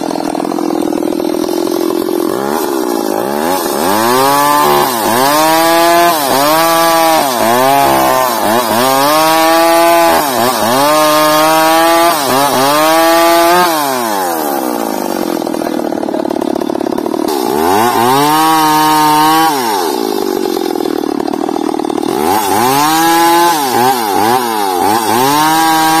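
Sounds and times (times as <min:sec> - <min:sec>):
chainsaw cutting timber: 0:00.0 - 0:26.0.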